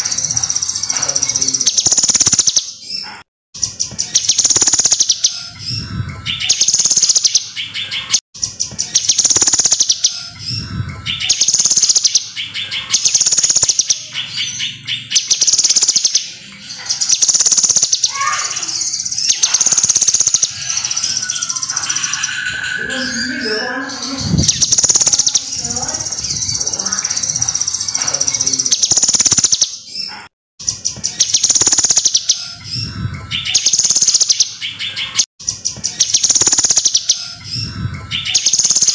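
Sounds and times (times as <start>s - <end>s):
bird singing rapid high trill: 0.0s - 3.2s, 3.8s - 30.1s, 31.0s - 38.9s.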